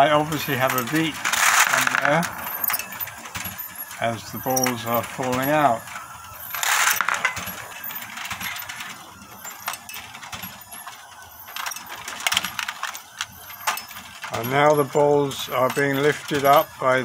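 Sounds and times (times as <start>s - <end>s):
steel balls clattering on metal: 0.0s - 17.0s.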